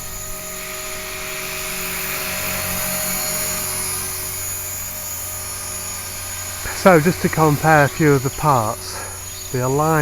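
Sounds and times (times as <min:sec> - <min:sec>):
model helicopter motor whine: 0:00.0 - 0:10.0.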